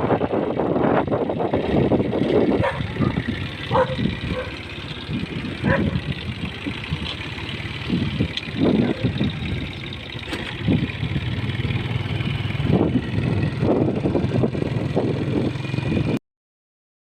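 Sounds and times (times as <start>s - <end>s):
vehicle engine running: 0.0s - 16.2s.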